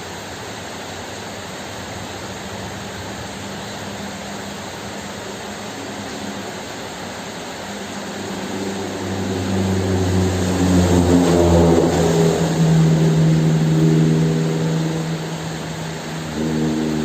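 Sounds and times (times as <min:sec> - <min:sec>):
droning engine hum: 0:00.0 - 0:17.0
rain hiss: 0:00.0 - 0:17.0.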